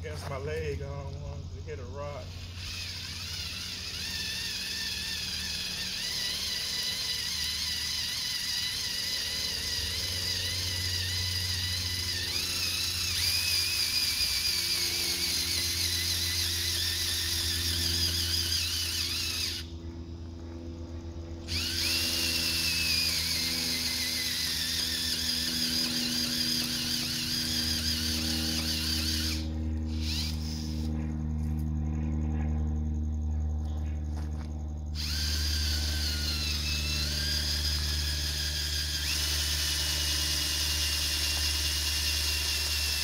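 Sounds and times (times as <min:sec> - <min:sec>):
power drill boring into dirt: 0:00.0 - 0:19.7, 0:21.4 - 0:30.9, 0:35.0 - 0:43.0.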